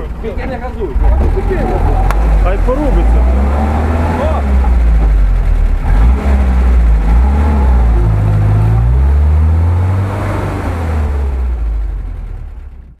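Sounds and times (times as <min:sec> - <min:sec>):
engine revving under load: 0:00.9 - 0:12.7.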